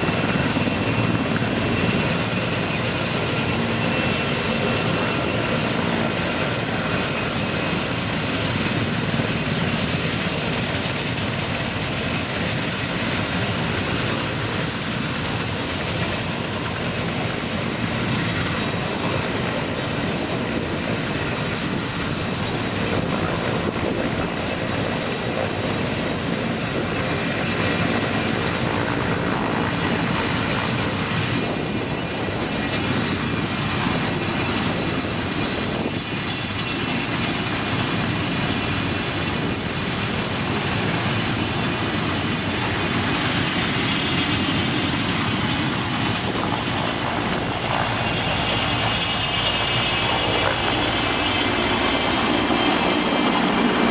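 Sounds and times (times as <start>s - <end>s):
helicopter turbine whine: 0.0s - 53.9s.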